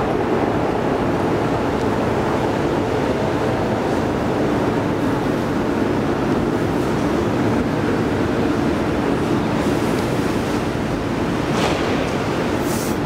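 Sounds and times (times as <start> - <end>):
busy station noise: 0.0 - 13.0
metro train rumbling: 0.0 - 13.0.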